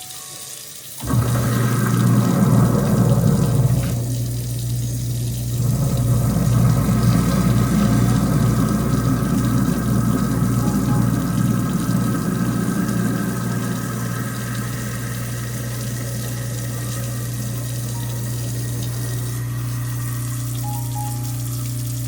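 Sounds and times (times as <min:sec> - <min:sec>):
tap water running into sink: 0:00.0 - 0:22.0
low hum: 0:01.0 - 0:22.0.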